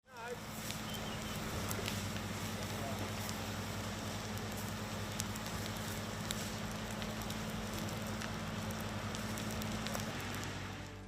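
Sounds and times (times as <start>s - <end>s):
fire crackling: 0.0s - 11.0s
fire rushing noise: 0.0s - 11.0s
low steady hum: 0.1s - 11.0s.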